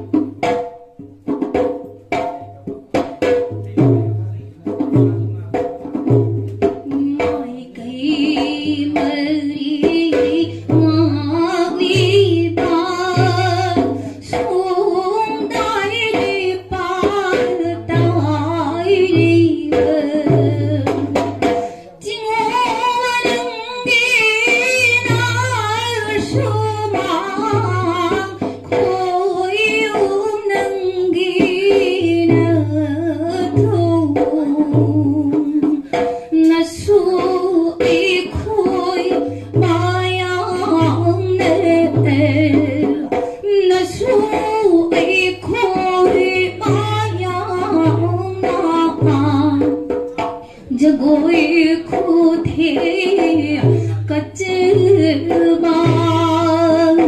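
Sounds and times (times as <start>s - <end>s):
dholak drum beating: 0.0s - 57.0s
woman singing dance song: 6.6s - 57.0s.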